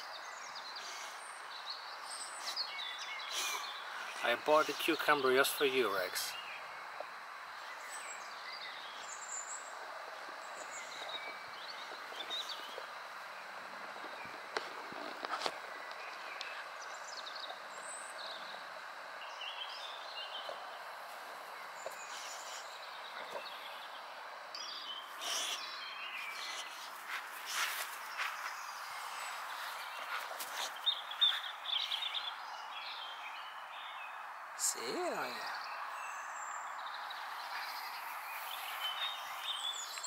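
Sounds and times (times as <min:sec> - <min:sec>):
small birds chirping: 0:00.0 - 0:40.0
steady background noise: 0:00.0 - 0:40.0.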